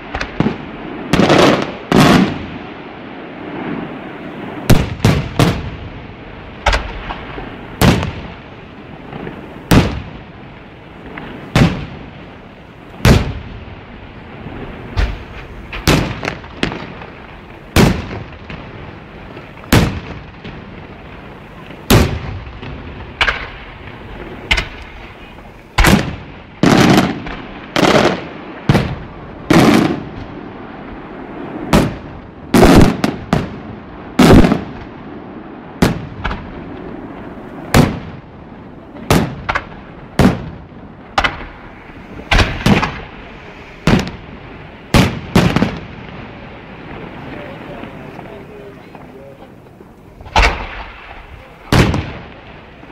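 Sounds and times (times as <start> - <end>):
fireworks exploding: 0.0 - 52.9
low rolling rumble: 1.8 - 52.9.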